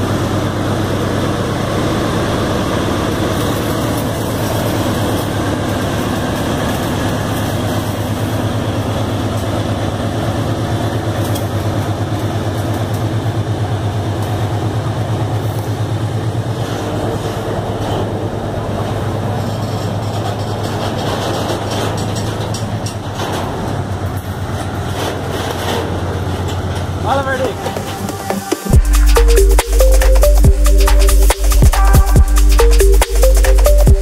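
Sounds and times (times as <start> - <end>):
diesel locomotive engines droning: 0.0 - 34.0
freight wagons passing: 0.0 - 34.0.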